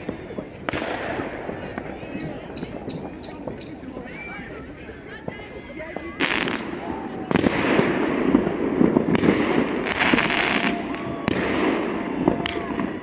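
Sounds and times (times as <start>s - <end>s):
firework bang: 0.0s - 3.9s, 6.1s - 13.0s
fireworks crackling and popping: 0.0s - 13.0s.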